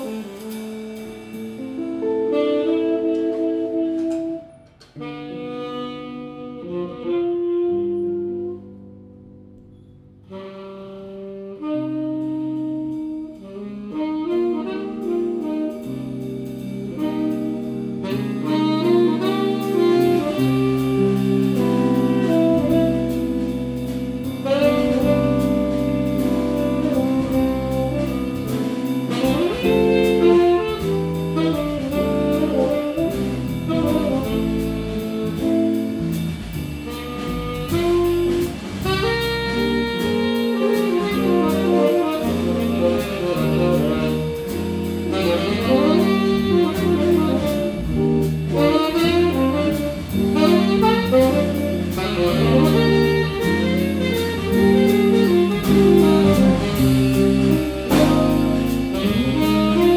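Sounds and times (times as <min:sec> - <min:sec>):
electric bass: 0:00.0 - 0:59.9
tenor saxophone: 0:00.0 - 0:59.9.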